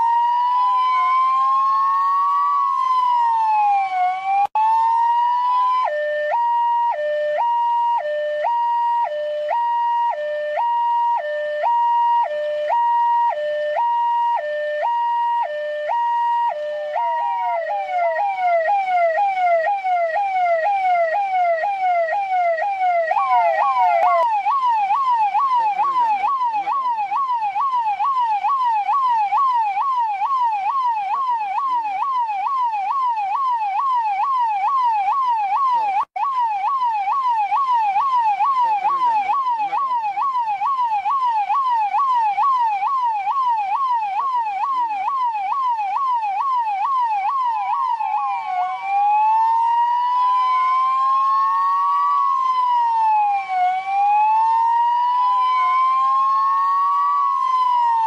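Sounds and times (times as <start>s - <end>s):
police siren yelping: 0.0s - 58.0s.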